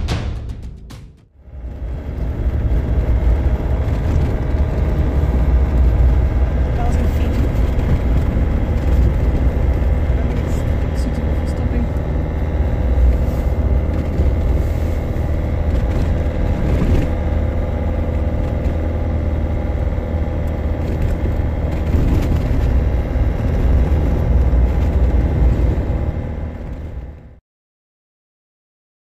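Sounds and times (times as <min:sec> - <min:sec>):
vehicle engine and road noise: 0:00.0 - 0:27.4.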